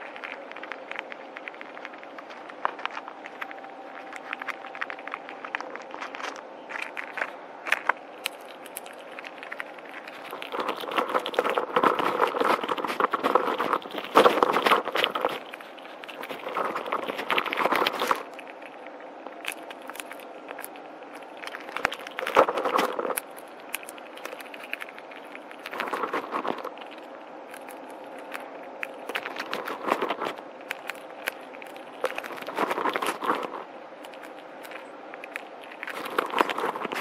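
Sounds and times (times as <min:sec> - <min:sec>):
squirrel crunching seeds: 0:00.0 - 0:37.0.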